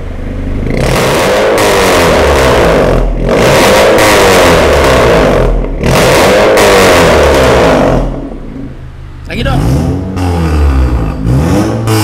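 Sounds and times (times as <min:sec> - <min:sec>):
car engine revving through exhaust: 0:00.0 - 0:12.0.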